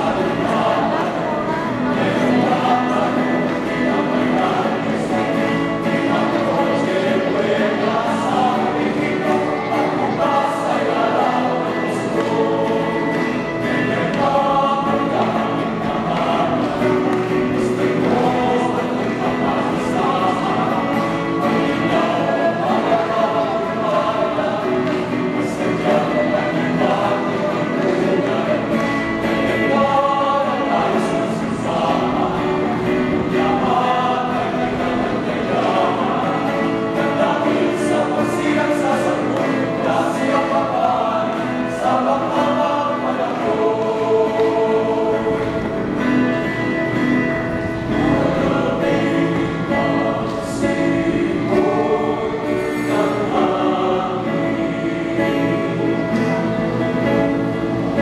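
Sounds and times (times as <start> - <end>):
male choir singing a cappella: 0.0 - 58.0.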